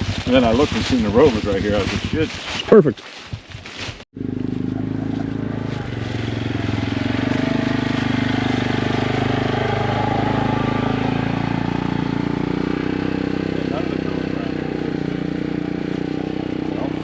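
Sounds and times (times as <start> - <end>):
vehicle engine humming: 0.0 - 2.4, 4.2 - 17.0.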